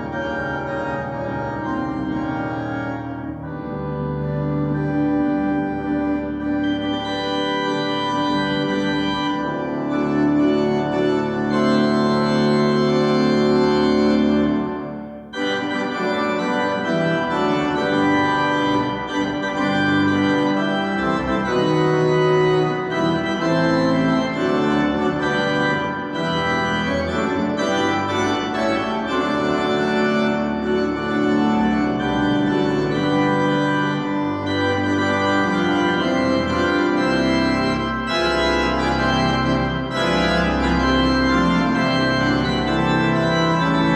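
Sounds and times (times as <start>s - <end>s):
church organ chords: 0.0s - 43.9s.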